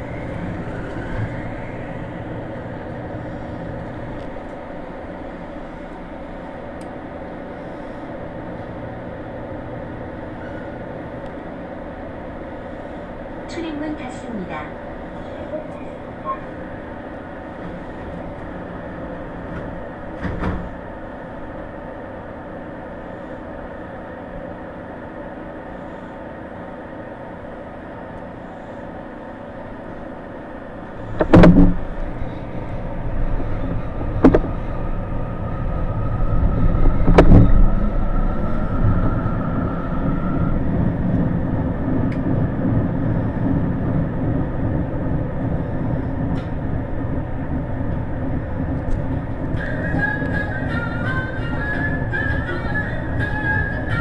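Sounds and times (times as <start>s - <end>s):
loud train clunks: 0.0s - 8.4s, 9.8s - 21.8s, 30.6s - 54.0s
electric train humming: 0.0s - 54.0s
faint train whine: 0.0s - 54.0s
train wheel rumble: 0.0s - 54.0s.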